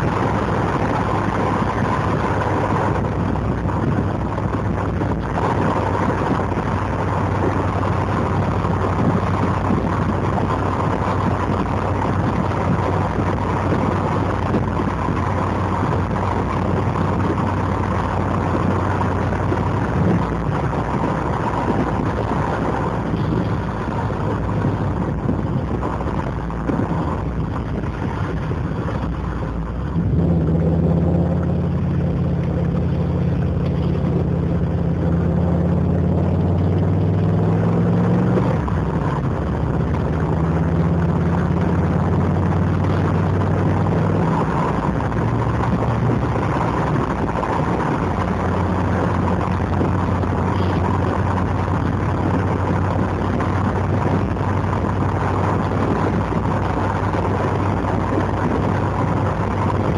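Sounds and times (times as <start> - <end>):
car engine burbling: 0.0 - 59.9.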